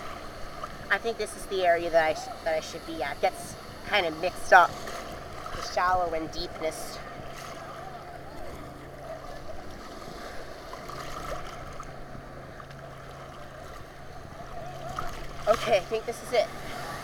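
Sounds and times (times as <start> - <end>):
ocean surf washing: 0.0 - 17.0
water sloshing close by: 3.3 - 17.0.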